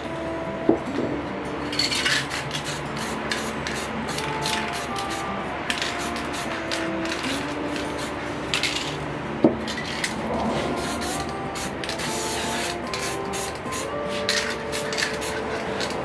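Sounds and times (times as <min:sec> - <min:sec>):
music with held notes: 0:00.0 - 0:16.0
spray paint can hissing: 0:01.7 - 0:09.0, 0:09.7 - 0:16.0.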